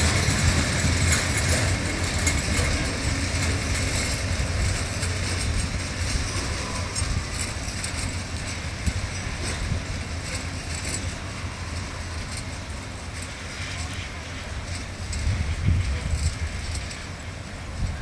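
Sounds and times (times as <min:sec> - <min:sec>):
freight train rumbling past: 0:00.0 - 0:18.0
wheels clattering on track: 0:00.0 - 0:18.0.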